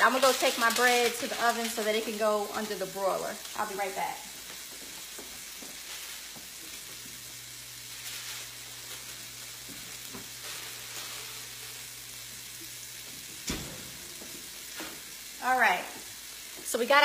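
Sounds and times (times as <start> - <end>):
shrimp sizzling in a frying pan: 0.0 - 17.0.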